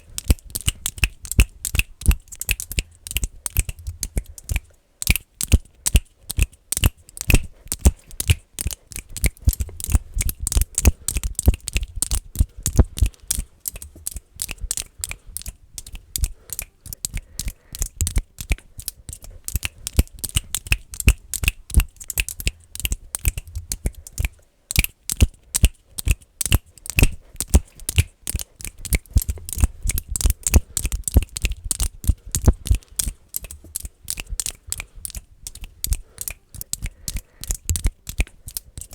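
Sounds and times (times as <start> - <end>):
finger clicking: 0.0 - 38.9.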